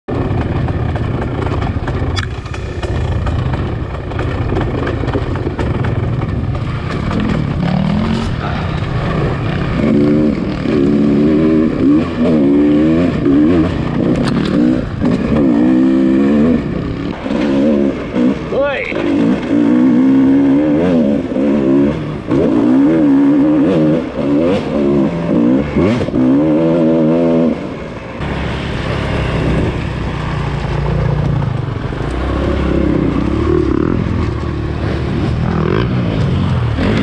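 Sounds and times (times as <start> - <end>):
dirt bike engine revving: 0.1 - 37.0.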